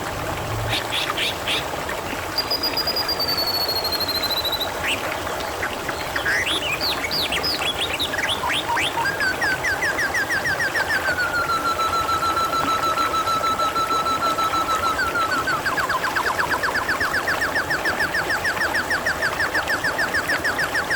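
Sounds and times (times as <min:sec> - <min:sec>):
water trickling and splashing: 0:00.0 - 0:20.9
small birds calling: 0:00.7 - 0:20.9.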